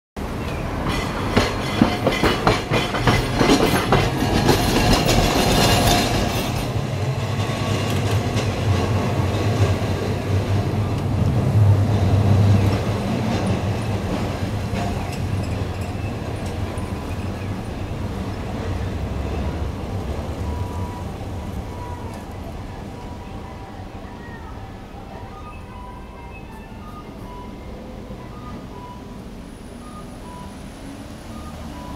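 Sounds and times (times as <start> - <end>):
passing traffic: 0.2 - 31.9
tram humming: 0.2 - 31.9
tram wheels clattering over rail joints: 0.2 - 31.9.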